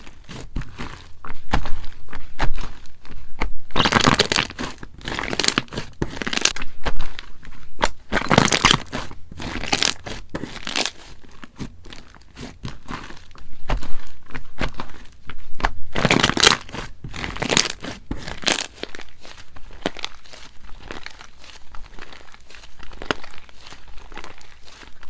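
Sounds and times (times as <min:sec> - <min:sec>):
slime squished by hand: 0:00.0 - 0:25.0.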